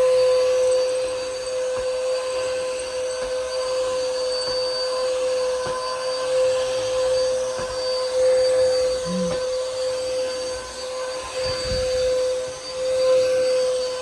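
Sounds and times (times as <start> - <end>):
vacuum cleaner motor whine: 0.0 - 14.0.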